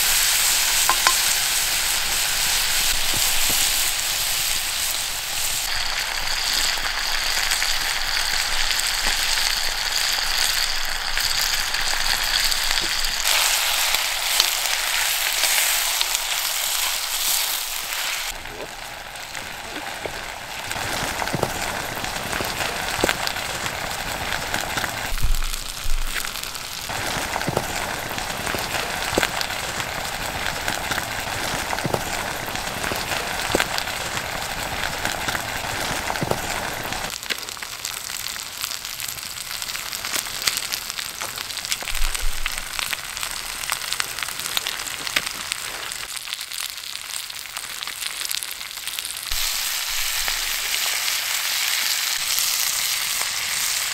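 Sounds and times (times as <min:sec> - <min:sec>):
campfire crackling: 0:00.0 - 0:53.9
food sizzling in a pot: 0:00.0 - 0:53.9.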